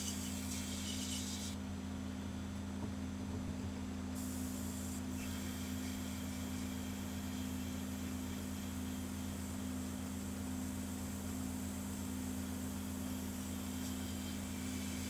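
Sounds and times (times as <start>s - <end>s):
small electric motor hum: 0.0s - 1.6s, 4.2s - 15.0s.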